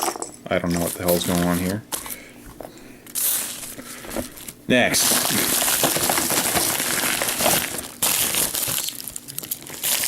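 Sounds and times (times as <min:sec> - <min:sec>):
plastic packaging crinkling: 0:00.6 - 0:02.2, 0:03.1 - 0:10.0.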